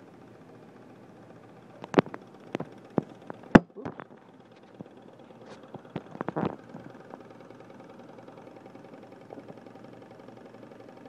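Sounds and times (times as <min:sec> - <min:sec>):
model engine flywheel whirring: 0:00.0 - 0:11.0.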